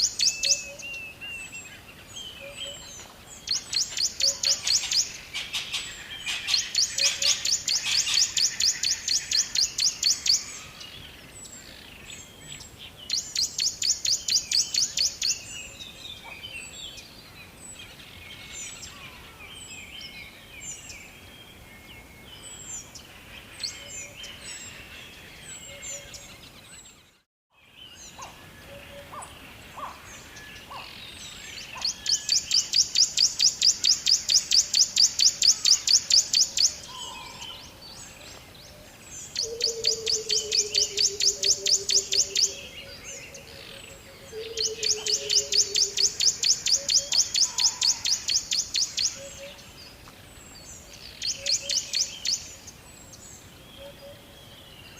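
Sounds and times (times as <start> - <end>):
bird singing fast trill: 0.0 - 17.1, 17.8 - 38.1, 39.2 - 49.9, 50.6 - 54.9
birds chirping: 0.0 - 54.9.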